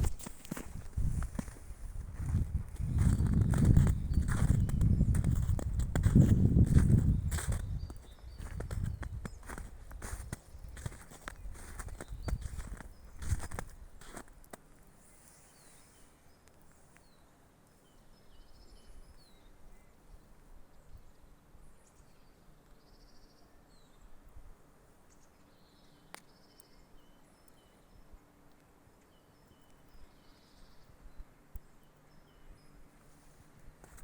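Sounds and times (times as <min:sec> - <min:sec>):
songbirds calling: 0:02.2 - 0:14.4, 0:15.1 - 0:24.3, 0:25.0 - 0:34.0.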